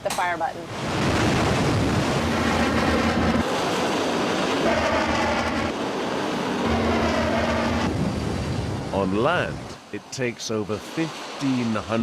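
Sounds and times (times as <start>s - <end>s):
jet engines roaring: 0.4s - 10.1s.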